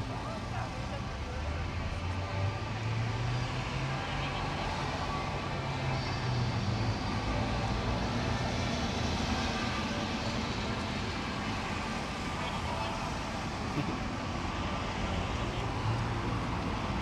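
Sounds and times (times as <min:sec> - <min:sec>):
dense background noise: 0:00.0 - 0:17.0.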